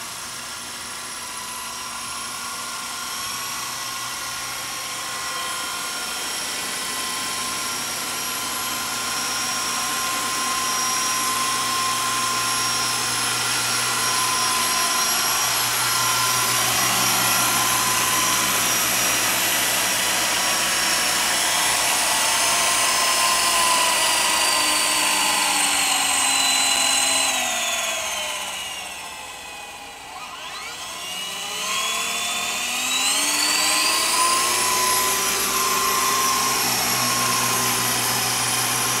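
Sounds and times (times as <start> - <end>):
toy helicopter rotors whining: 0.0 - 39.0.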